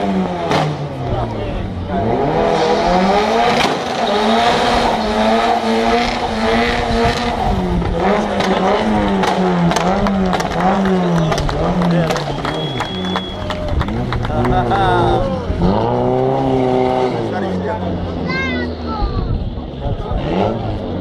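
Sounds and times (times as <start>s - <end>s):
car engine revving hard: 0.0s - 13.2s, 13.8s - 18.2s, 20.0s - 21.0s.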